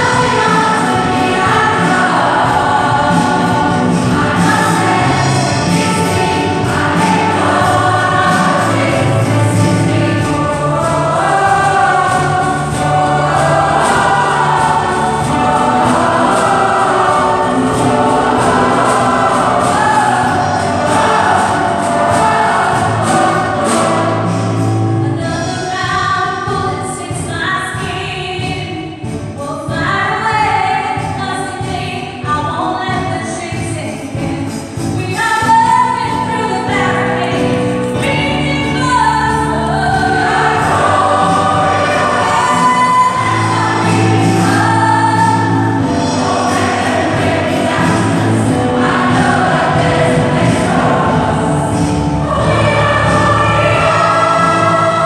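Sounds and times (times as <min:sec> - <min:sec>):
mixed choir singing: 0:00.0 - 0:27.0, 0:34.7 - 0:55.0.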